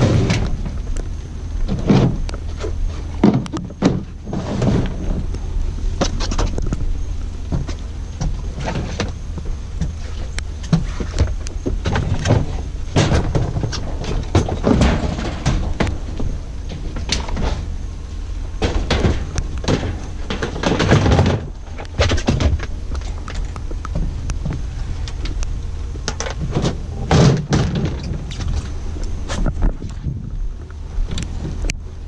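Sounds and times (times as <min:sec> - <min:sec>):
shelf clunking and scraping: 0:00.0 - 0:01.0, 0:01.6 - 0:06.9, 0:07.5 - 0:25.4, 0:26.1 - 0:31.7
low steady rumble: 0:00.0 - 0:32.0.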